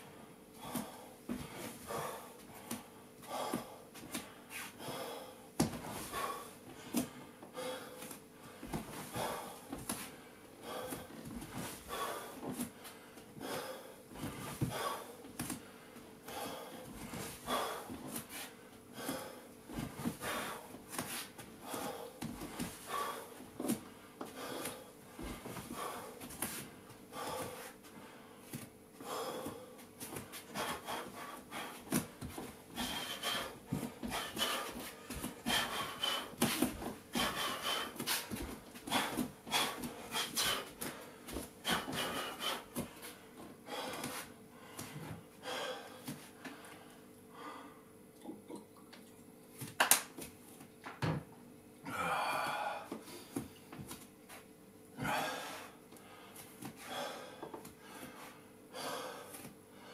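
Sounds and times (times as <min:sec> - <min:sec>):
man breathing hard: 0:00.0 - 0:47.9, 0:51.8 - 0:53.6, 0:54.9 - 0:59.9.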